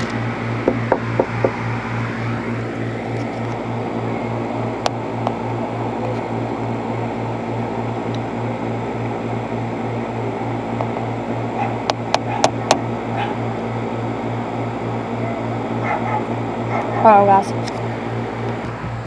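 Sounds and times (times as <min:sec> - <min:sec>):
throbbing mechanical hum: 0:00.0 - 0:19.0.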